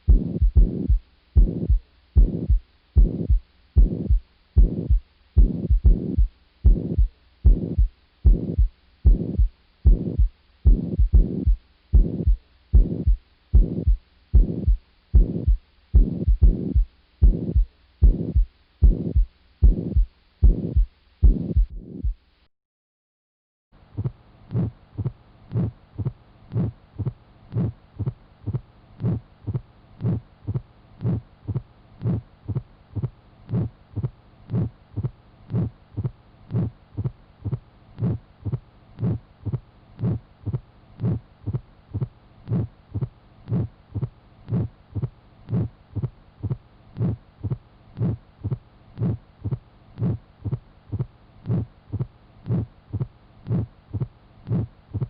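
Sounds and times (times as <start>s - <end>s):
heartbeat thuds: 0.0s - 22.2s, 24.0s - 55.0s.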